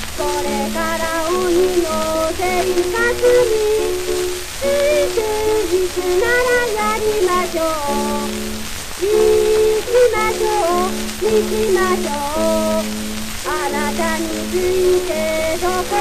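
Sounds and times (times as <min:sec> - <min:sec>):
child singing with accompaniment: 0:00.0 - 0:16.0
record surface hiss and crackle: 0:00.0 - 0:16.0.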